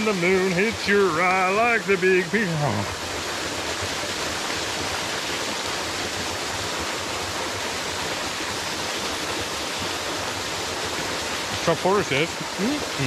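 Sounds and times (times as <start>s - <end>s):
waterfall and brook rushing: 0.0s - 13.0s.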